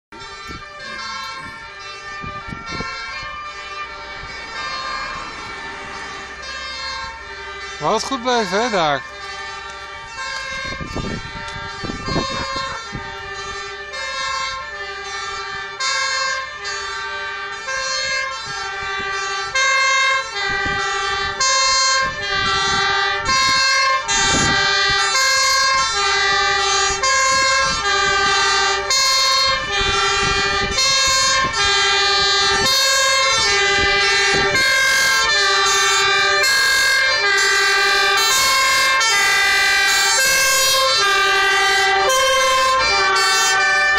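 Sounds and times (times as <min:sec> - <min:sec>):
fire engine two-tone siren: 0:00.1 - 0:43.9.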